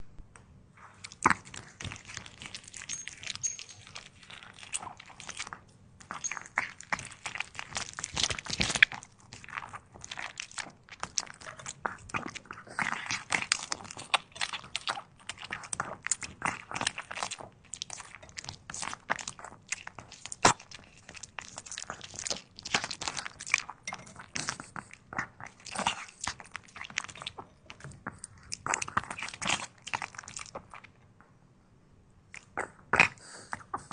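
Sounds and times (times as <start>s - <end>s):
puppy chewing vegetables: 0.8s - 31.0s, 32.3s - 33.9s.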